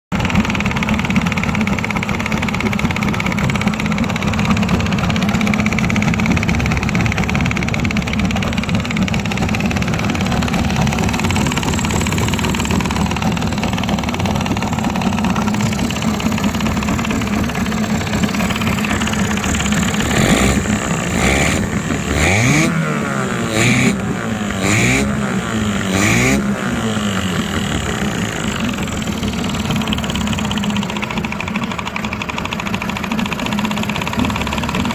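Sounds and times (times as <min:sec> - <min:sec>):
engine running and revving: 0:00.2 - 0:31.3.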